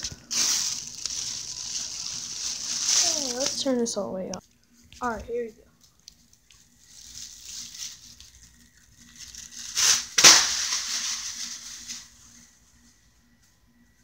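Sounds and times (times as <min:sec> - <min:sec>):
plastic bag rustling: 0:00.0 - 0:04.2, 0:05.3 - 0:12.4
ceiling fan running: 0:00.0 - 0:14.0.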